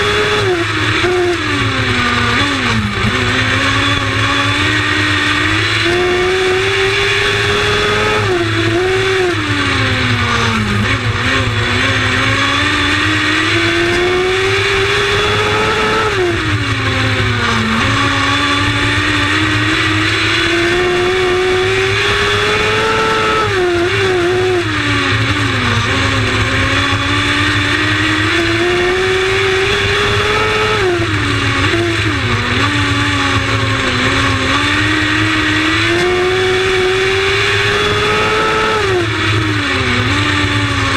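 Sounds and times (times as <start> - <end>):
race car engine: 0.0 - 40.9.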